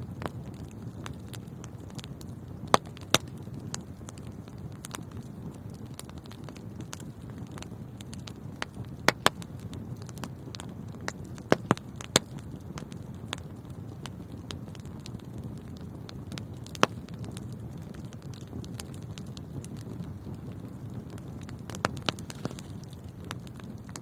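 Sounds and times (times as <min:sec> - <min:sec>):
fire crackles and pops: 0:00.0 - 0:24.0
low rumble of flames: 0:00.0 - 0:24.0.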